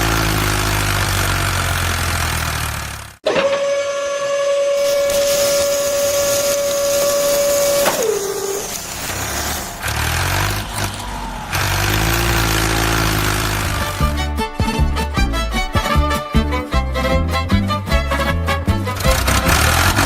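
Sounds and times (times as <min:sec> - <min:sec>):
truck engine running: 0:00.0 - 0:03.2, 0:05.0 - 0:20.0.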